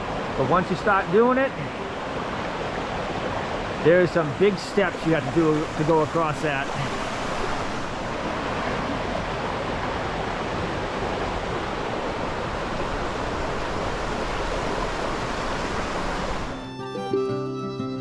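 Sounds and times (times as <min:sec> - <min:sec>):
river water flowing: 0:00.0 - 0:17.8.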